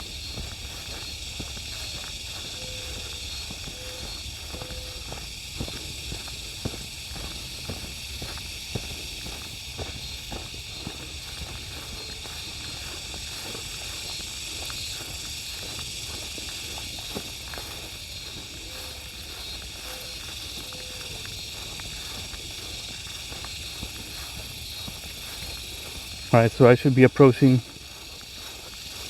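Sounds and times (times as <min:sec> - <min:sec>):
footsteps crunching on trail: 0:00.0 - 0:29.0
steady high-pitched hiss: 0:00.0 - 0:29.0.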